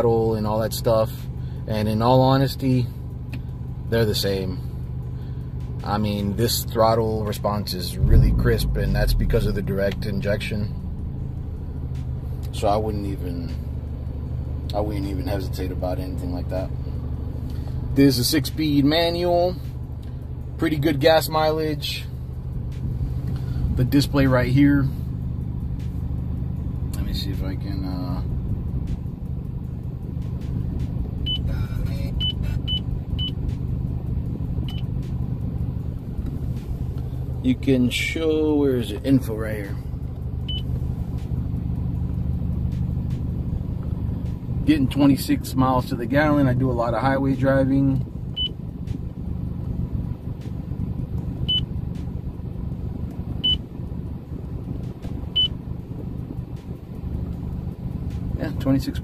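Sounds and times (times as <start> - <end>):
car engine rumble: 0.0 - 59.0.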